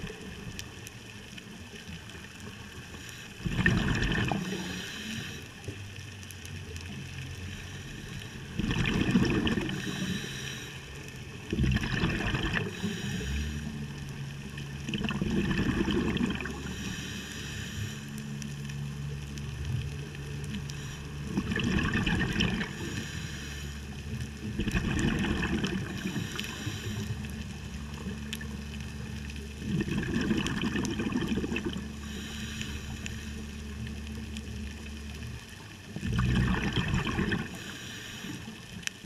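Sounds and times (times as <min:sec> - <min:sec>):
steady low hum: 0:00.0 - 0:39.0
underwater bubbles gurgling: 0:00.0 - 0:39.0.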